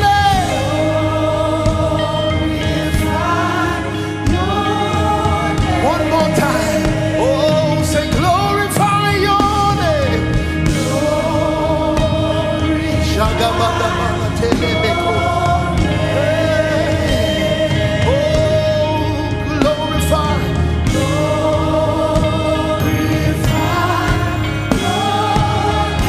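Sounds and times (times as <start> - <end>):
keyboard and bass backing: 0.0 - 26.0
voices singing gospel: 0.0 - 26.0.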